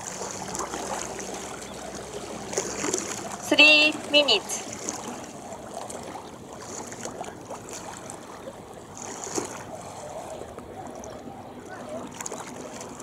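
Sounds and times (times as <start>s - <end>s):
water rushing: 0.0s - 13.0s
wind: 0.0s - 13.0s.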